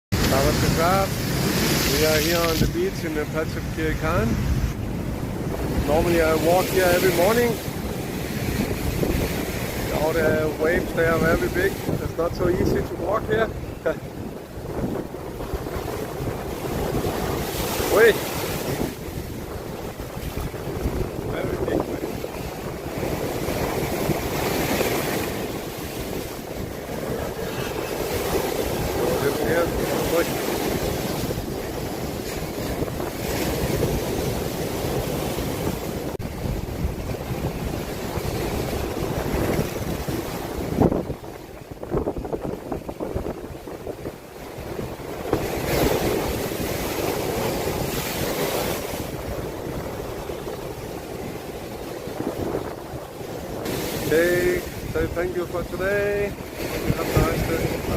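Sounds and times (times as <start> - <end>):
surf breaking on a beach: 0.1 - 57.9
wind buffeting microphone: 0.1 - 57.9.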